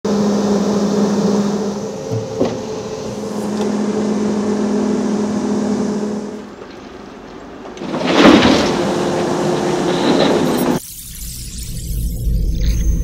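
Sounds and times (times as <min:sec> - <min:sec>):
excavator diesel engine running: 0:00.1 - 0:10.8.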